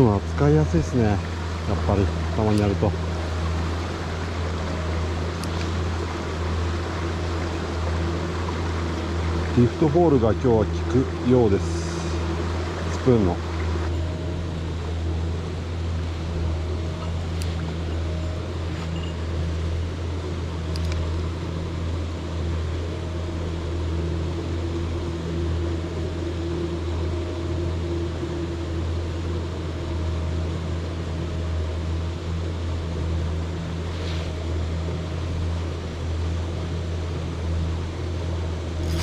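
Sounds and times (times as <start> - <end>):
rushing stream: 0.0 - 39.0.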